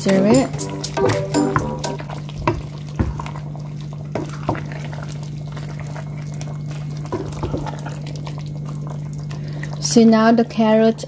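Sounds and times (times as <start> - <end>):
stew bubbling in a pot: 0.1 - 11.0.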